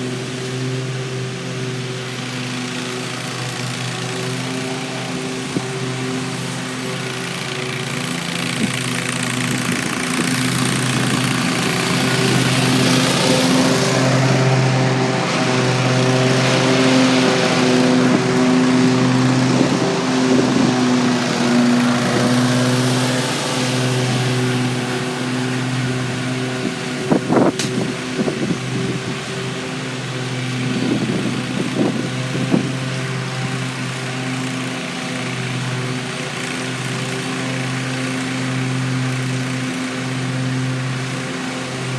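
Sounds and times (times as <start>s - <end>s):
mower engine running: 0.0s - 41.9s.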